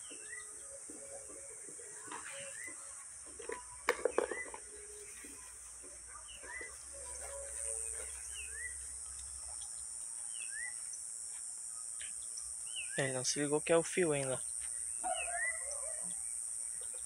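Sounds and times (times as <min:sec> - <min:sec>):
bird chirping: 0:00.0 - 0:17.0
high-pitched insect drone: 0:00.0 - 0:17.0.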